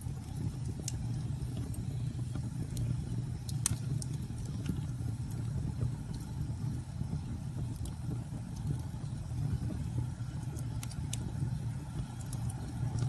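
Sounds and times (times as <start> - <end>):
low fire rumble: 0.0 - 13.0
wood fire crackling: 0.0 - 13.0
sharp fire pops: 0.1 - 13.0.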